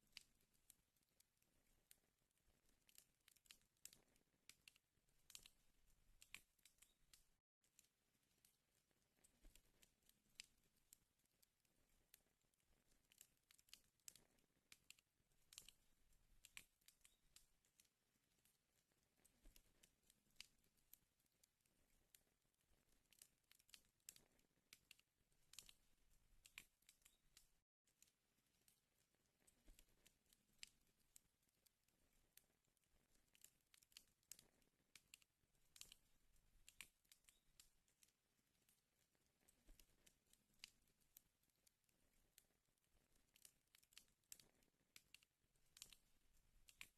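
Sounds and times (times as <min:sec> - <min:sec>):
wood fire crackling: 0:00.0 - 0:27.6, 0:28.4 - 0:41.1, 0:42.8 - 0:46.9.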